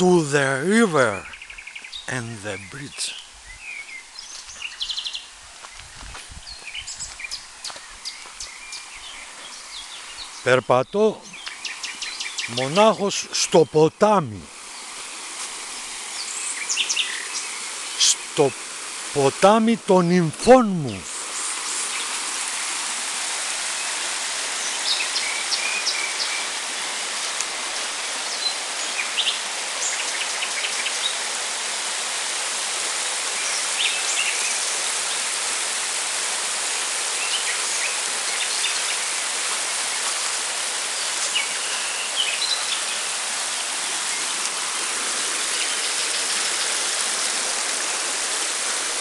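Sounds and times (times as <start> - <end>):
river rushing over stones: 0.0 - 49.0
small birds chirping: 0.5 - 22.5, 23.6 - 31.6, 33.2 - 35.5, 36.6 - 48.5.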